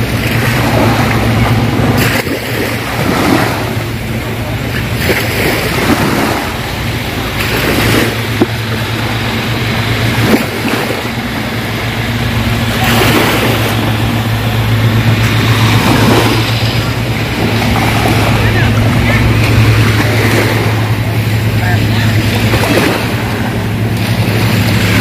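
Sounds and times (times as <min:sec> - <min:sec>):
motorboat engine droning: 0:00.0 - 0:25.0
small waves washing: 0:00.0 - 0:25.0
wind: 0:00.0 - 0:25.0.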